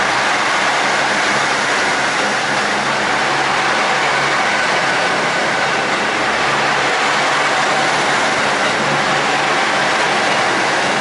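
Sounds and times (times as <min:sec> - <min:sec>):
diesel train engine drone: 0:00.0 - 0:11.0
rushing wheel and rail noise: 0:00.0 - 0:11.0.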